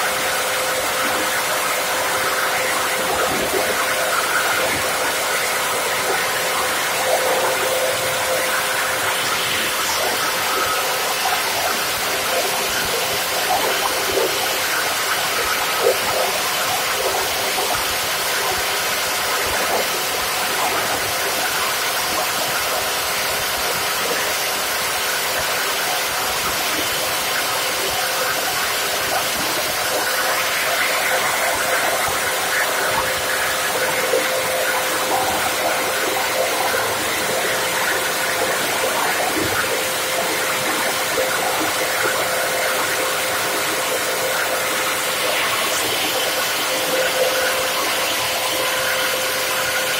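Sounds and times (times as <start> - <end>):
bottle grinder hiss and whine: 0.0 - 49.9.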